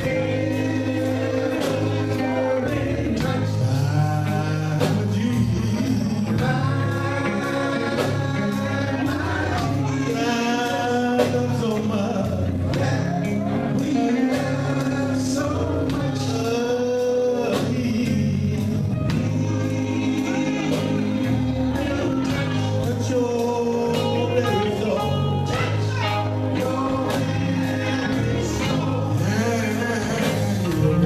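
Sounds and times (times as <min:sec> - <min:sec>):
heavy bass line: 0:00.0 - 0:31.0
live band playing: 0:00.0 - 0:31.0
vocal group singing in harmony: 0:00.0 - 0:31.0.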